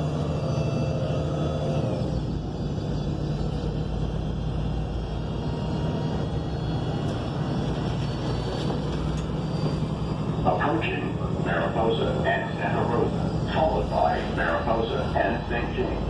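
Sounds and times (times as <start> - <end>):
bus engine rumble: 0.0 - 16.0
road noise: 0.0 - 16.0.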